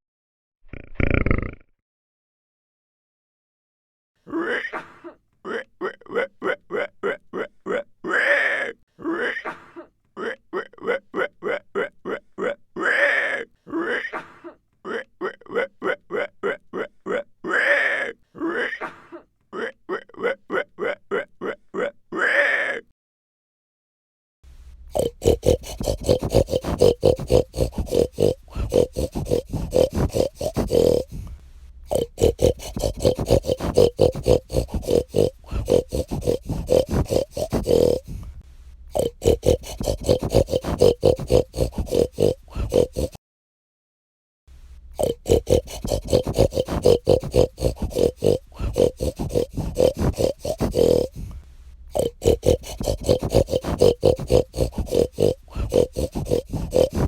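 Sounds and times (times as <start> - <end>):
pig grunting and oinking: 0.7 - 1.6, 5.5 - 9.4, 10.2 - 14.1, 14.8 - 18.8, 19.5 - 22.9, 24.9 - 43.2, 44.9 - 57.0.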